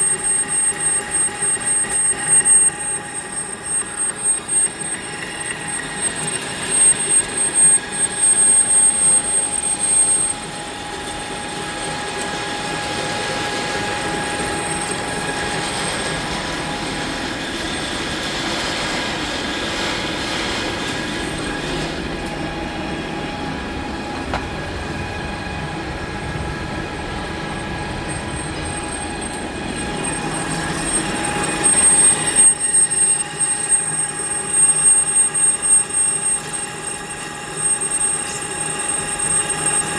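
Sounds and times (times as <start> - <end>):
metal lathe boring whine: 0.0 - 39.9.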